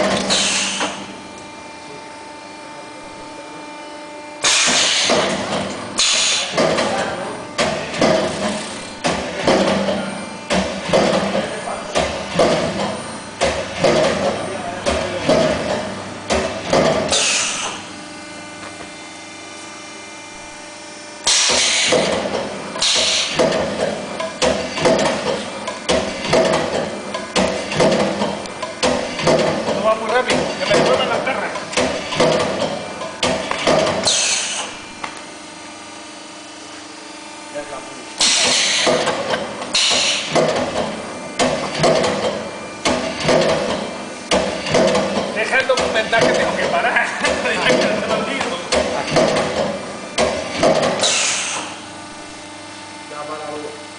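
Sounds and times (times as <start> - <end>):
hydraulic pump hum with whine: 0.0 - 53.9.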